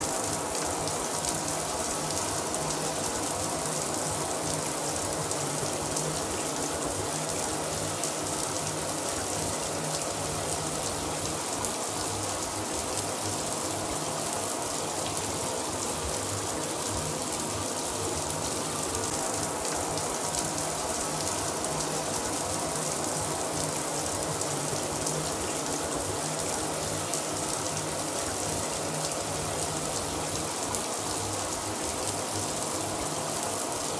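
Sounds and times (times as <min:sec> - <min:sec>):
shower running: 0:00.0 - 0:33.9.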